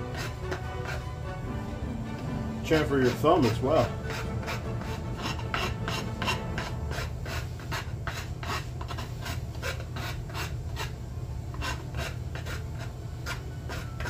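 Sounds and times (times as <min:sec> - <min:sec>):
rasp filing hardwood: 0:00.0 - 0:01.2, 0:02.7 - 0:14.0.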